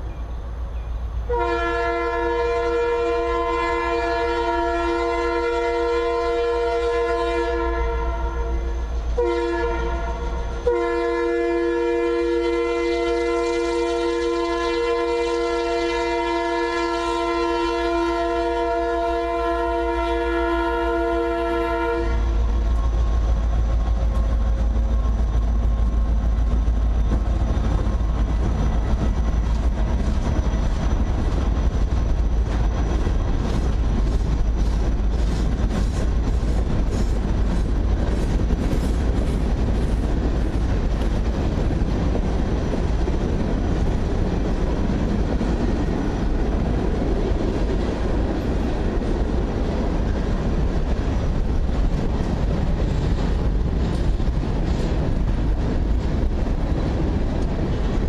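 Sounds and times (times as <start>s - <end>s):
train wheels rattling on rails: 0.0s - 58.0s.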